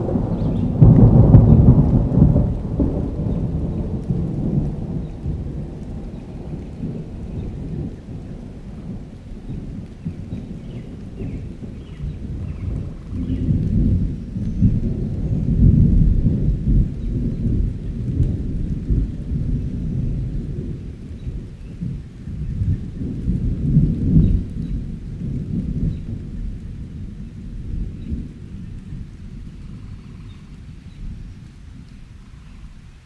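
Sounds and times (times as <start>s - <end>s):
rain: 0.0s - 33.0s
rolling thunder: 0.0s - 33.0s.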